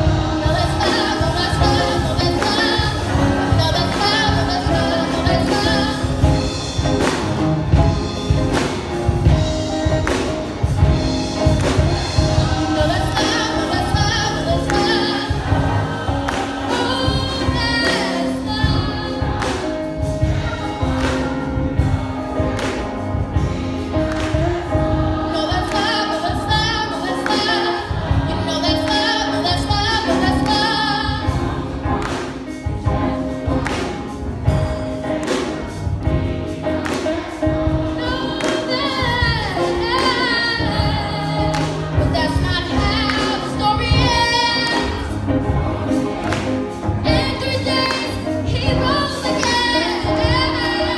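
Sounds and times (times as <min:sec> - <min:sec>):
gospel choir singing: 0:00.0 - 0:50.9
music with steady beat: 0:00.0 - 0:50.9.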